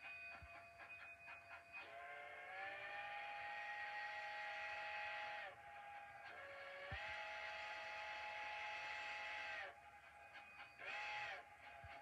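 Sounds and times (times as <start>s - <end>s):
steam locomotive chime whistle: 0.0s - 12.0s.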